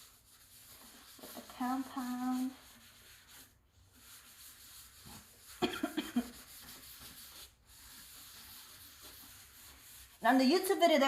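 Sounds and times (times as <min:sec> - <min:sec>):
faint rubbing by hand: 0:00.0 - 0:11.0.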